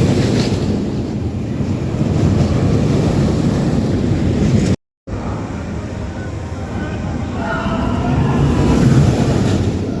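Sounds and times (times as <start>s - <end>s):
wind buffeting microphone: 0.0s - 4.8s, 5.4s - 10.0s.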